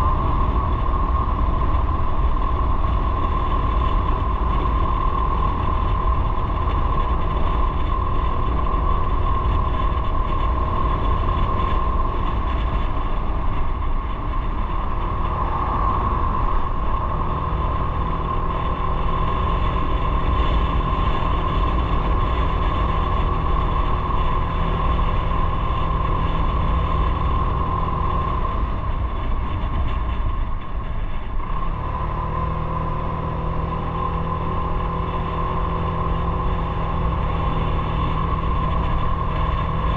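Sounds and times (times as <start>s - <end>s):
motorcycle engine running: 0.0s - 39.9s
road and wind noise rumble: 0.0s - 39.9s.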